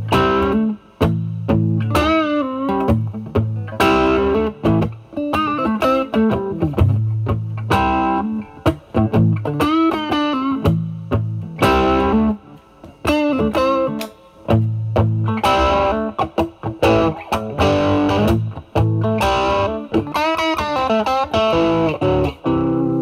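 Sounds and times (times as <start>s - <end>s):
overdriven electric guitar blues: 0.0s - 23.0s.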